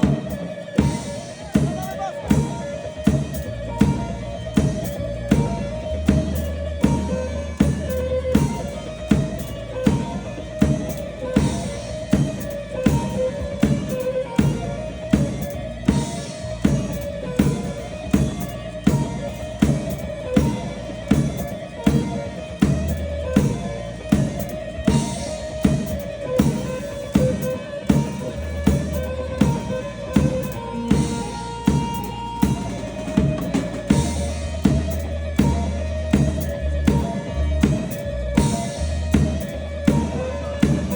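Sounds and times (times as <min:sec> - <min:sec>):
instrumental folk melody: 0:00.0 - 0:40.9
steady drumbeat: 0:00.0 - 0:40.9.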